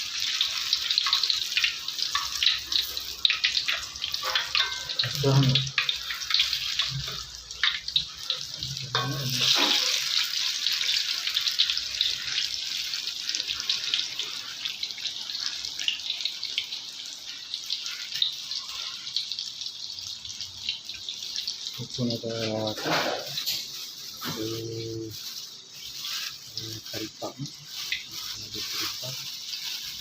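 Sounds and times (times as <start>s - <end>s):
hot oil sizzling in a pan: 0.0s - 30.0s.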